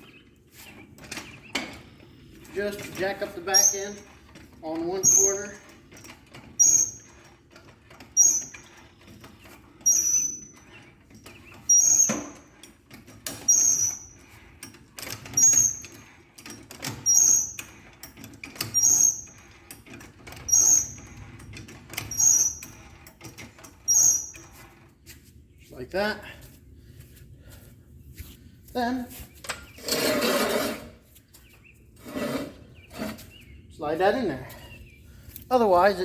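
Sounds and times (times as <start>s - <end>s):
jack squeaking: 0.0s - 26.4s, 28.8s - 36.0s.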